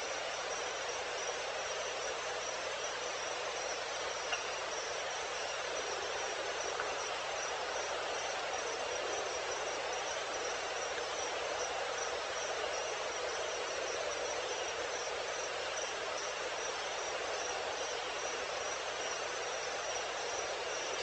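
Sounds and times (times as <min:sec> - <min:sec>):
crickets and insects hissing: 0:00.0 - 0:21.0.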